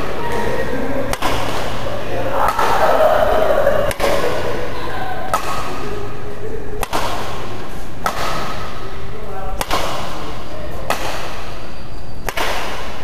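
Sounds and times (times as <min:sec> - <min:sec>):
racket hitting shuttlecock: 0:00.0 - 0:13.0
sports hall voices: 0:00.0 - 0:13.0.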